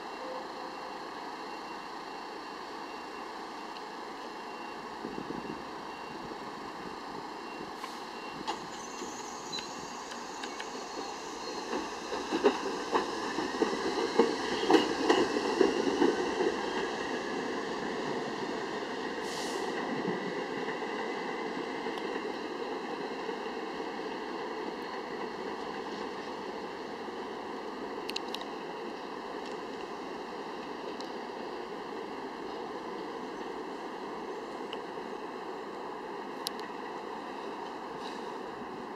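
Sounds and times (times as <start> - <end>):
subway train whine: 0.0 - 38.9
train rumble: 5.0 - 38.9.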